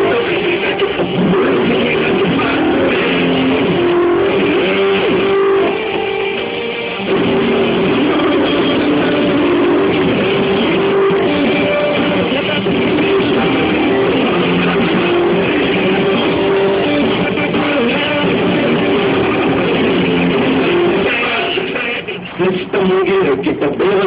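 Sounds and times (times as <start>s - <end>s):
rock music with guitar: 0.0s - 23.0s.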